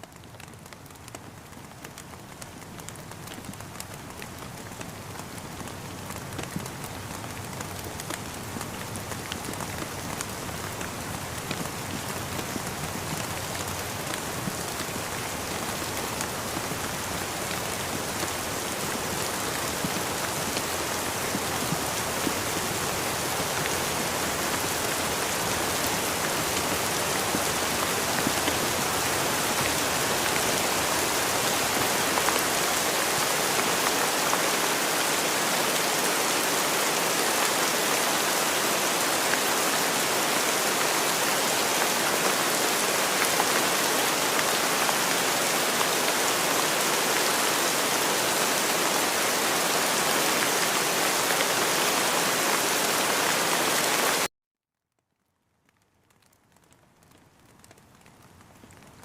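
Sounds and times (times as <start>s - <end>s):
steady rain falling: 0.0s - 54.3s, 54.9s - 59.0s.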